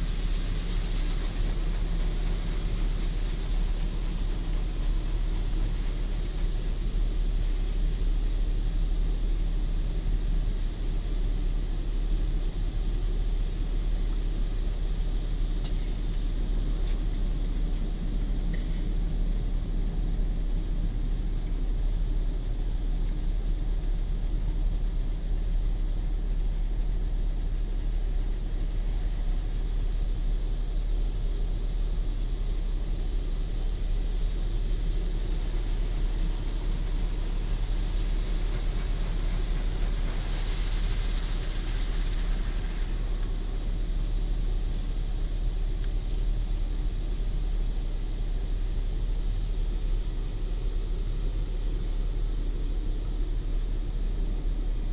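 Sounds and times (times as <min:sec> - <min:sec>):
car wash rumble: 0:00.0 - 0:54.9.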